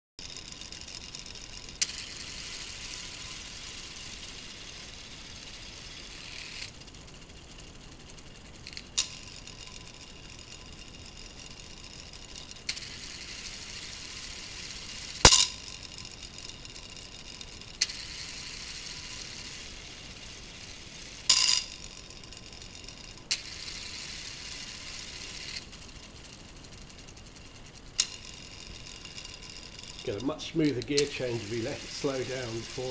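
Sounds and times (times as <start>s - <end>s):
plastic gears clacking: 0.2s - 32.9s
small motor whirring: 0.2s - 32.9s.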